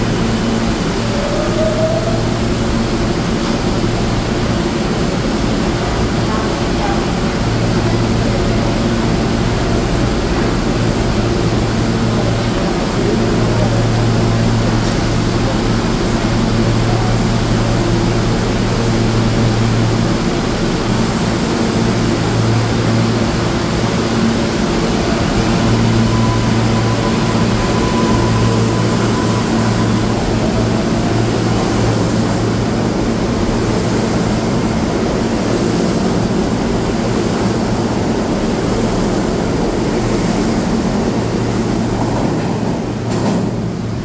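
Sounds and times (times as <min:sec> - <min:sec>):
subway train hum: 0:00.0 - 0:44.0
train wheels on rails: 0:00.0 - 0:44.0.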